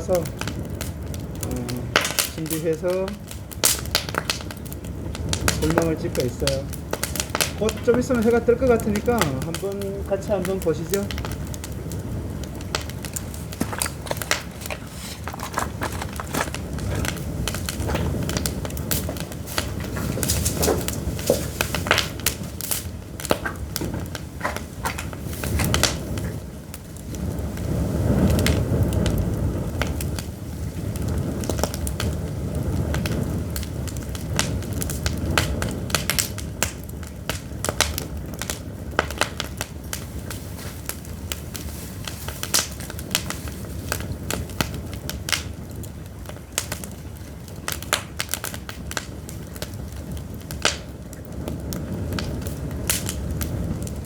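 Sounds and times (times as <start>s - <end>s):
fire crackling and popping: 0.0s - 54.0s
low rushing fire sound: 0.0s - 54.0s.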